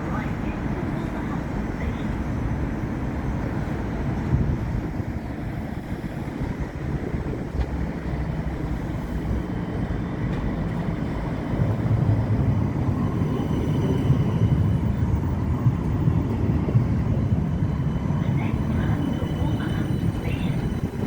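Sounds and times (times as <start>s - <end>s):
heavy vehicle rumbling: 0.0s - 21.0s.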